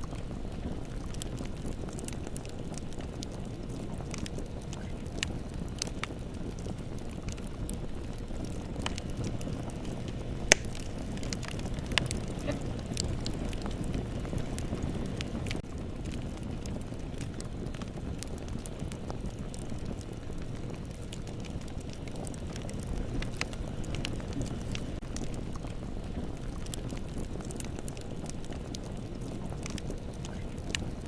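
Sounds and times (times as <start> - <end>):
bonfire rumbling: 0.0 - 31.0
burning wood crackling and popping: 0.0 - 31.0.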